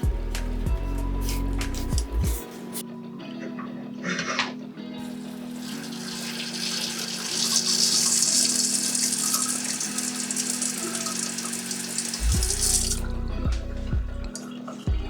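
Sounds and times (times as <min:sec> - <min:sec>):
water running: 0:00.0 - 0:02.8, 0:05.0 - 0:15.0.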